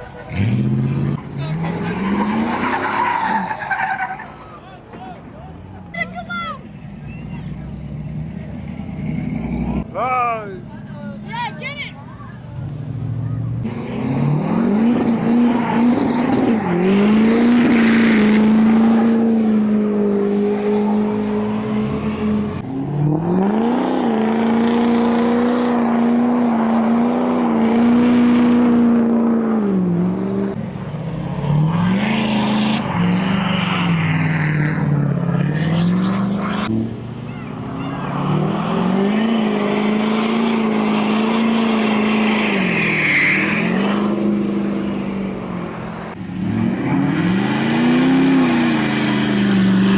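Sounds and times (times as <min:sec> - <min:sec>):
car engine revving: 0:00.0 - 0:03.7, 0:05.9 - 0:10.0, 0:12.6 - 0:49.9.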